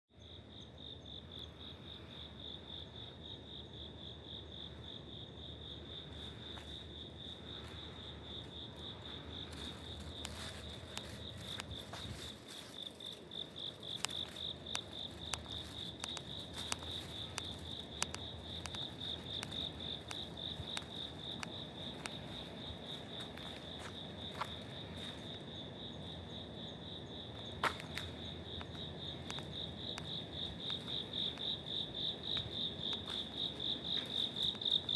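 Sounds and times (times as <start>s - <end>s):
cricket trilling: 0.1s - 34.9s.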